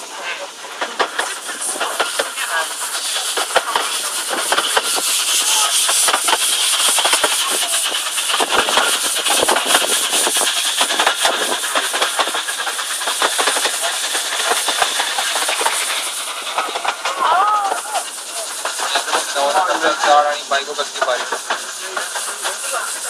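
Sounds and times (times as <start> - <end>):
steady hiss: 0.0 - 23.0
train wheels clicking on track: 0.0 - 23.0.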